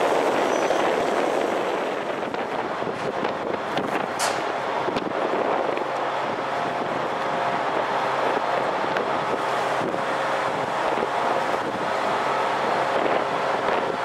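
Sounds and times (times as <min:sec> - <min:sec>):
train engine and wheels rumbling: 0:00.0 - 0:14.0.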